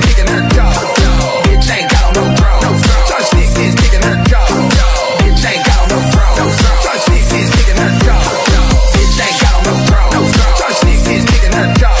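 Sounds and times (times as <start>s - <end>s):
progressive house music: 0.0s - 12.0s.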